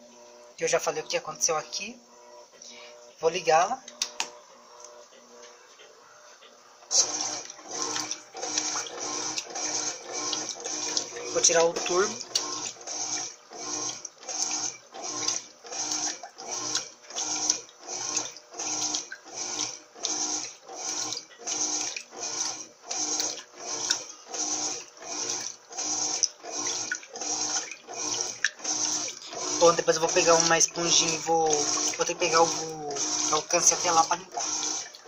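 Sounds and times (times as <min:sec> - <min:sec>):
washing machine sloshing water: 0:06.9 - 0:35.0.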